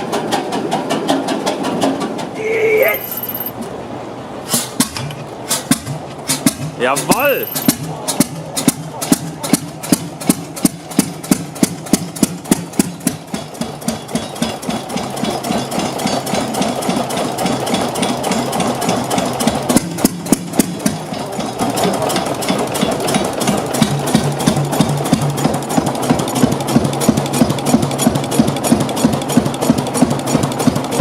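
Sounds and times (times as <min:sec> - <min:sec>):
engine knocking beat: 0:00.0 - 0:02.3, 0:04.8 - 0:31.0.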